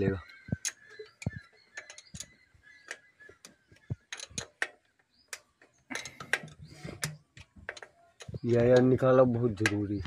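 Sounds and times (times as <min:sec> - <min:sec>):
hand pump metallic clicks: 0:00.0 - 0:10.0.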